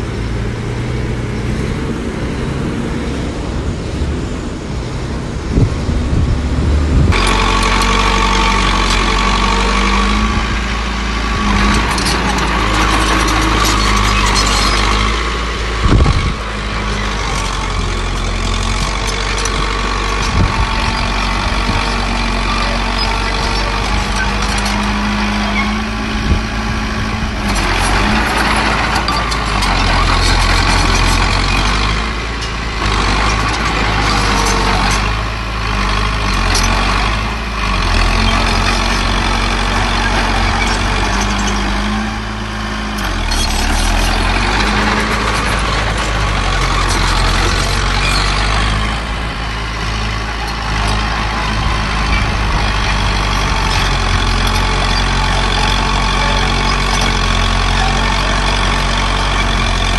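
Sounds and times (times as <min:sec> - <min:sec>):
diesel earthmoving machine running: 0:00.0 - 0:59.9.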